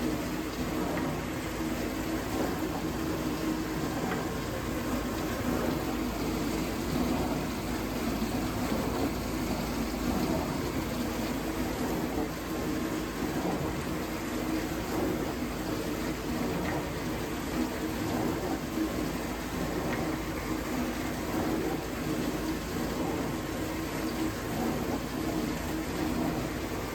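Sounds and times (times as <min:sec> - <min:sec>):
dishwasher motor and pump hum: 0:00.0 - 0:26.9
water spraying inside tub: 0:00.0 - 0:26.9.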